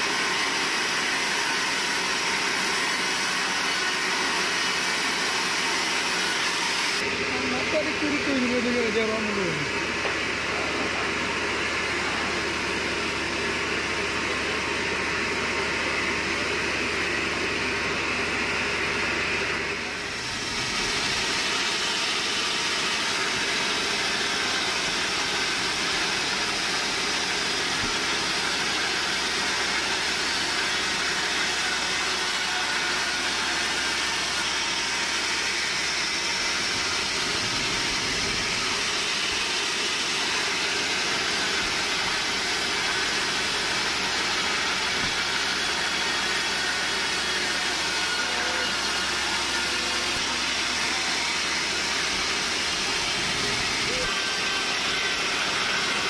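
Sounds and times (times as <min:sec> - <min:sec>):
bandsaw machinery drone: 0:00.0 - 0:56.0.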